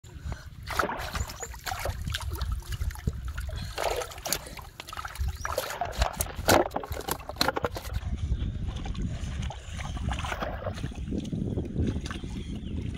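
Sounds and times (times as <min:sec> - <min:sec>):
shallow water splashing: 0:00.6 - 0:08.0, 0:08.7 - 0:12.3.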